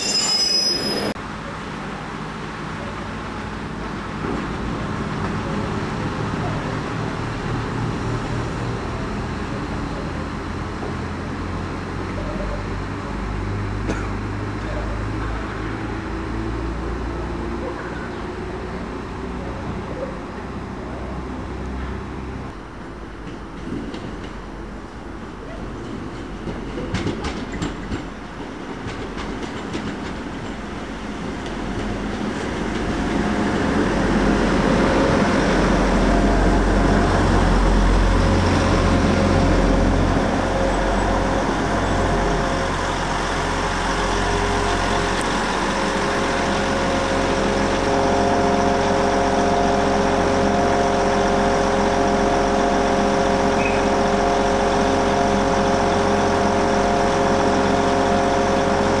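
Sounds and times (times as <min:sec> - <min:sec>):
diesel train engine rumble: 0:00.0 - 0:59.0.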